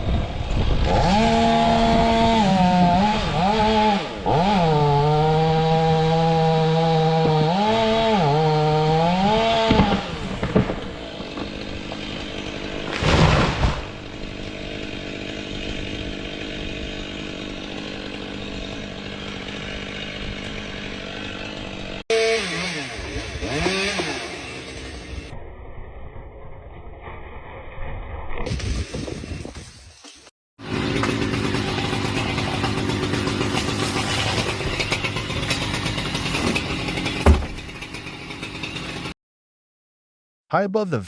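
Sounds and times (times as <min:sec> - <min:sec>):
chainsaw cutting at high revs: 0:00.1 - 0:25.3, 0:30.6 - 0:39.2
second chainsaw revving: 0:00.8 - 0:25.3, 0:30.6 - 0:39.2.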